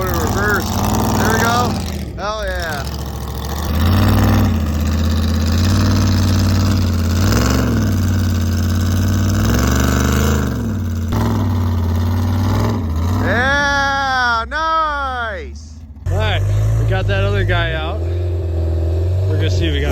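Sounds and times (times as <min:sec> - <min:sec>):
off-road vehicle engine revving: 0:00.0 - 0:19.9.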